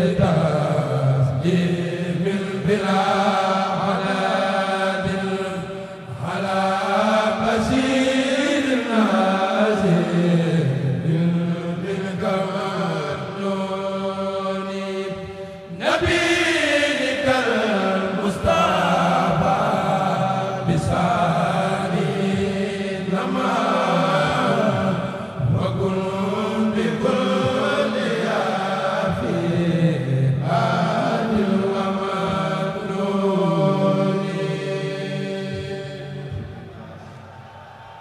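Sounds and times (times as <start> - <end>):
chorus of voices chanting: 0.0 - 38.0.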